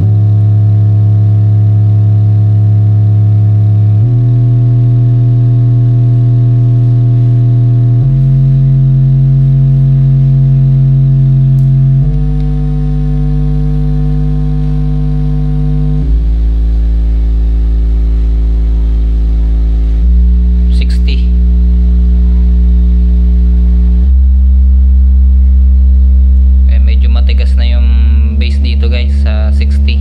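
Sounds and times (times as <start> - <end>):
subwoofer playing low test tones: 0.0 - 30.0.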